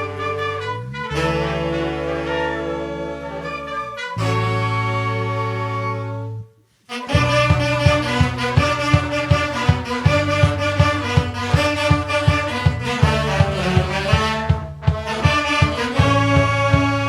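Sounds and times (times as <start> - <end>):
brass instrumental music: 0.0 - 17.0.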